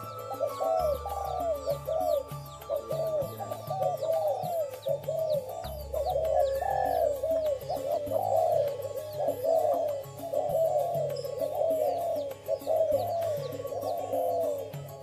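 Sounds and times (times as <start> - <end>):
background music: 0.0 - 15.0
doves cooing: 0.0 - 15.0
faint high bird chirps: 0.0 - 15.0.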